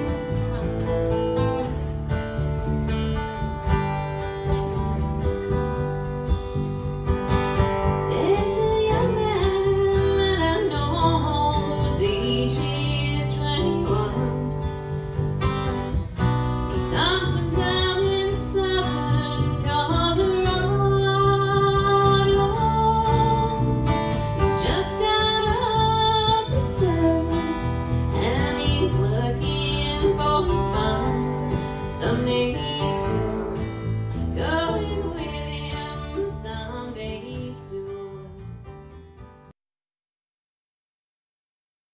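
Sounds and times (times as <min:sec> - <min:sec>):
low bass notes: 0:00.0 - 0:37.1
strummed acoustic guitar: 0:00.0 - 0:39.5.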